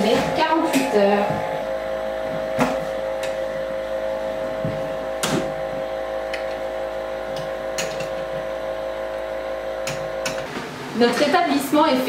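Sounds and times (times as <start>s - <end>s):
electrical equipment hum: 0.0s - 12.0s.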